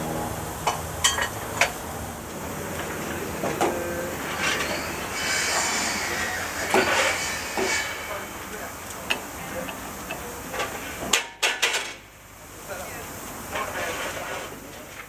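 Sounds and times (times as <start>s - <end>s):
steam hissing: 0.0s - 11.4s, 12.3s - 14.9s.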